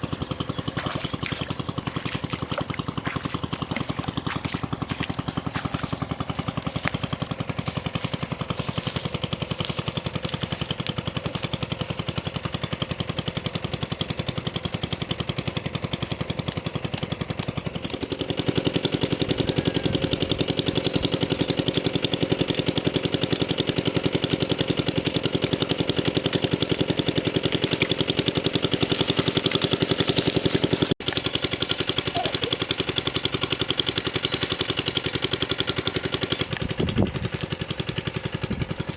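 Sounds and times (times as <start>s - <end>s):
small engine knocking steadily: 0.0s - 38.9s.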